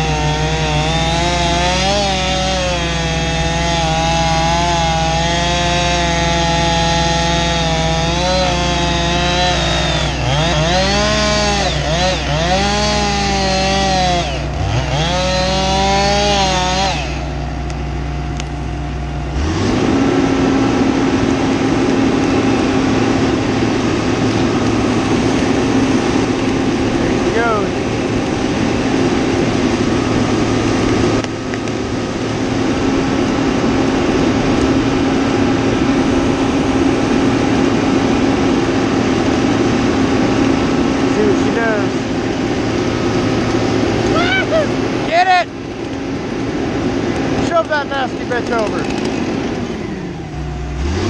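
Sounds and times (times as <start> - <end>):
chainsaw cutting wood: 0.0 - 51.0
heavy machine engine running: 0.0 - 51.0.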